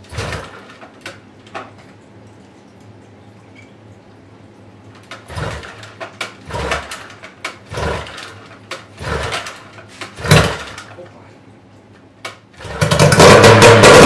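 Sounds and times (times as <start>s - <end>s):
low steady hum: 0.0s - 12.7s.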